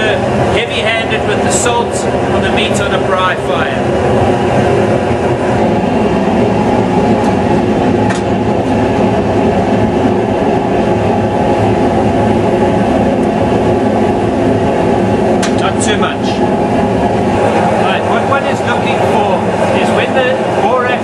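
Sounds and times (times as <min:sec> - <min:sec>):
gas forge burner roaring: 0:00.0 - 0:21.0.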